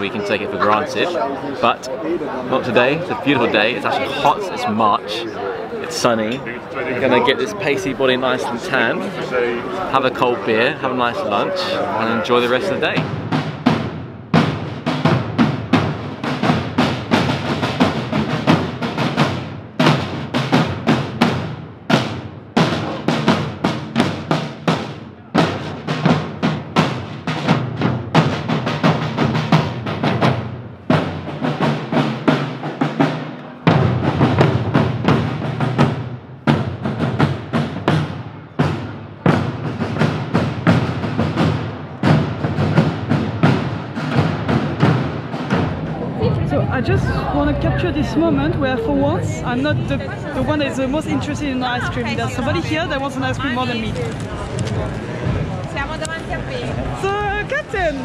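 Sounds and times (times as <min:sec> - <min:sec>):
marching drums: 0:00.0 - 0:58.0.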